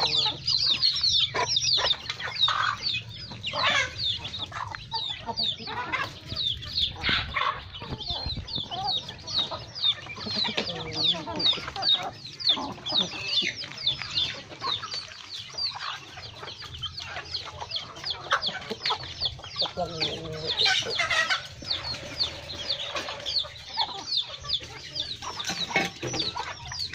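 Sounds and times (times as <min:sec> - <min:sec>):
chicks peeping: 0:00.0 - 0:26.9
hens clucking: 0:00.0 - 0:26.9.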